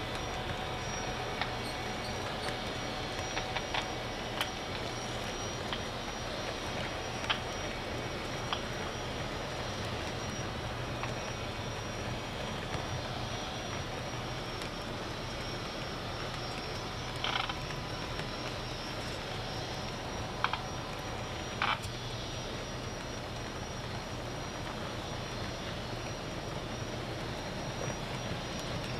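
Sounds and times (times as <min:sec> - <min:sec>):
model train wheels rumbling: 0:00.0 - 0:28.9.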